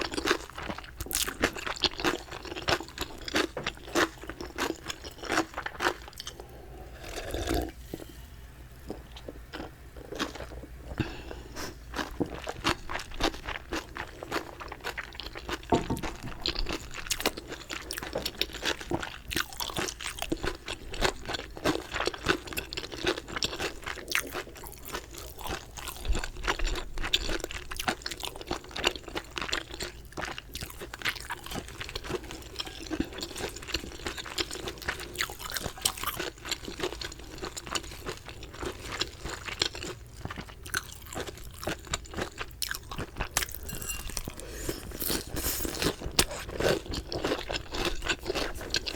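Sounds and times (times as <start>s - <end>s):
person chewing crunchy chicken: 0.0s - 7.8s, 8.9s - 48.9s.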